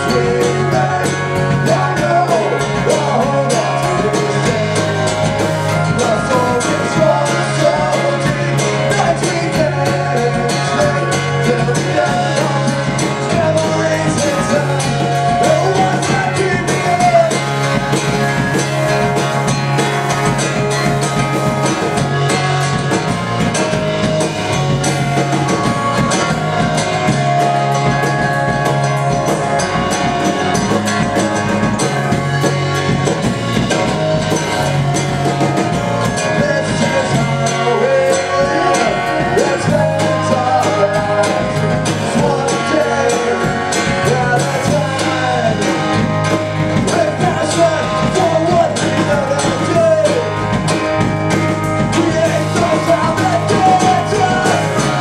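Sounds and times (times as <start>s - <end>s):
person singing: 0.0s - 51.1s, 51.8s - 55.0s
acoustic guitar strumming: 0.0s - 55.0s.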